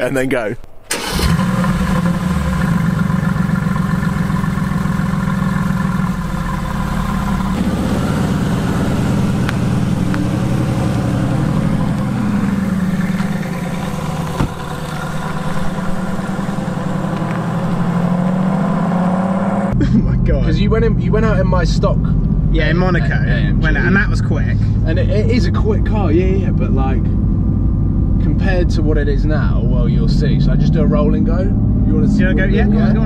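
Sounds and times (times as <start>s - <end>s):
car engine idling: 0.9s - 33.0s.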